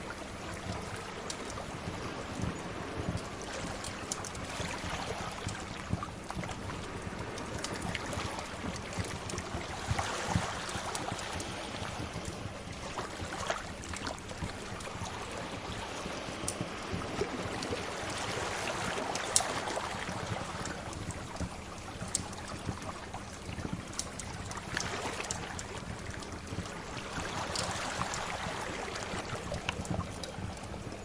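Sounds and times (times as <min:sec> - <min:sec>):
sea waves surging: 0:00.0 - 0:31.0.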